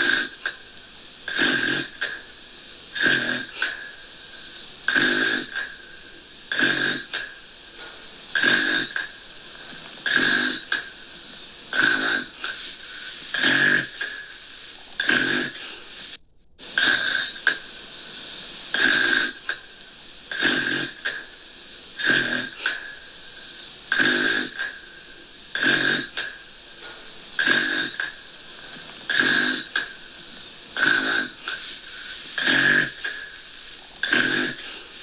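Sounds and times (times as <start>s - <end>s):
gentle snoring: 0.0s - 35.0s.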